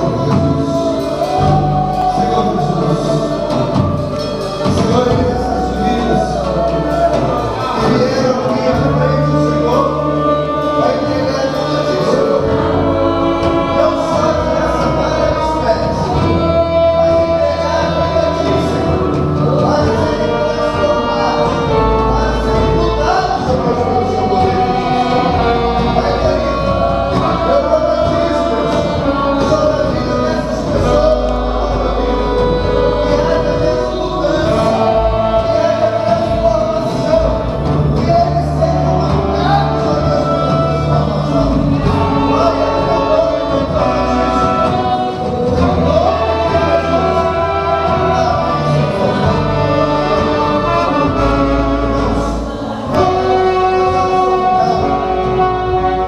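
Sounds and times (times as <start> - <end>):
amplified band playing: 0.0 - 56.0
singers singing gospel: 0.0 - 56.0.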